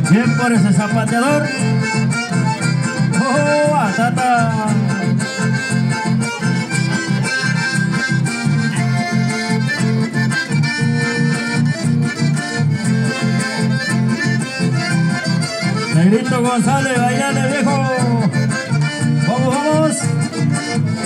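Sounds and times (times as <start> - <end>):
accordion melody: 0.0 - 21.0.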